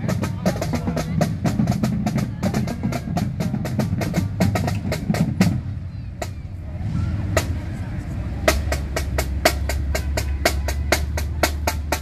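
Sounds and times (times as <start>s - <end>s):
marching snare and tenor drums: 0.0s - 12.0s.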